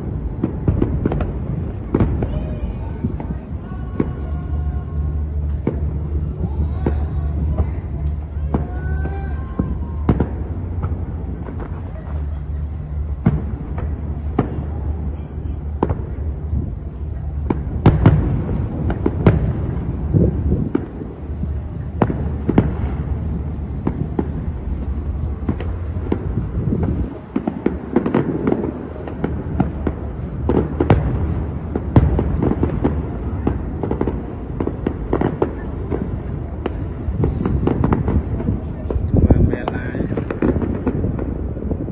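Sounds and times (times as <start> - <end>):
fireworks bangs: 0.0 - 41.9
low rumble: 0.0 - 41.9.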